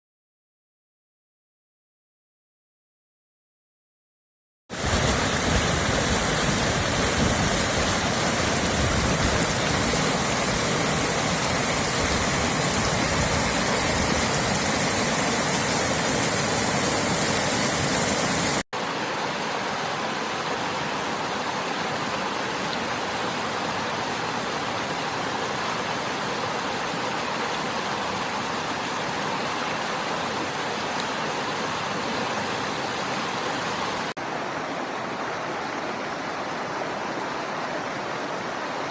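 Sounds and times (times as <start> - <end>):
river and waterfall rushing: 4.7 - 38.9.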